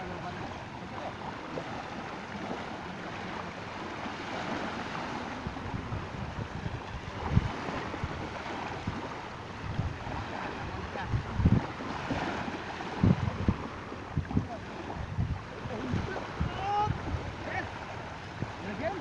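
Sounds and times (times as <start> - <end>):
small waves lapping on shore: 0.0 - 19.0
wind buffeting microphone: 0.0 - 19.0.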